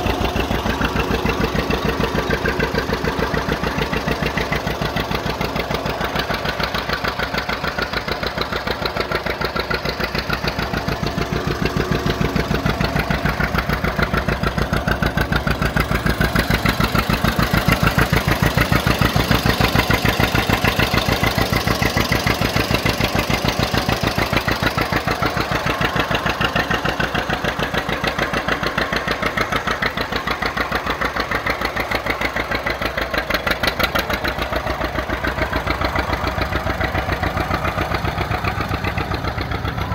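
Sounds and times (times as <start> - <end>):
two-cylinder tractor engine running: 0.0 - 39.9.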